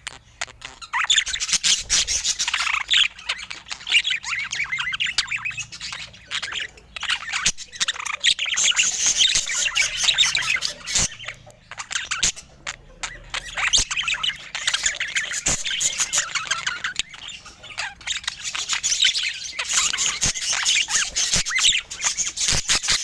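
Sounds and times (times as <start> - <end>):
budgerigars chattering: 0.0 - 23.0.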